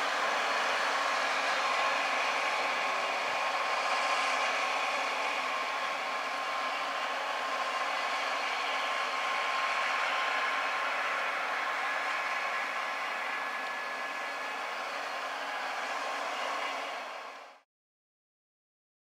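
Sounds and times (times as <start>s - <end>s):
crawler tractor engine and tracks: 0.0s - 17.6s
faint steady whine: 0.0s - 17.6s.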